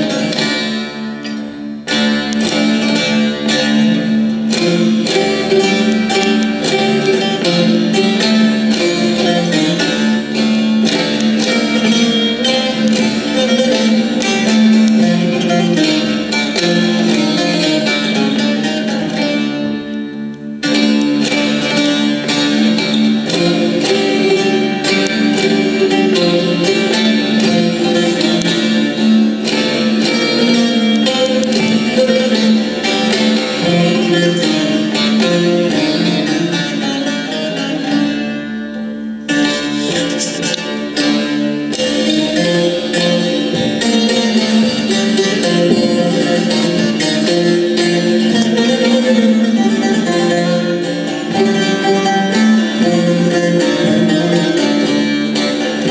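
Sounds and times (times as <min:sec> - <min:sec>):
plucked long-necked lutes folk tune: 0:00.0 - 0:55.9.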